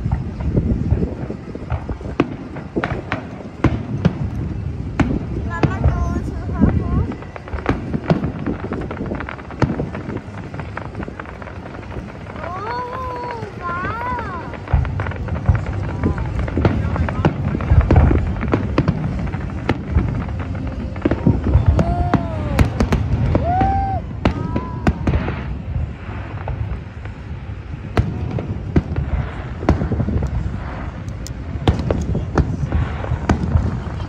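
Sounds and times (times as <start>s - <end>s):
fireworks booming: 0.0s - 34.0s
fireworks cracking and popping: 0.0s - 34.0s.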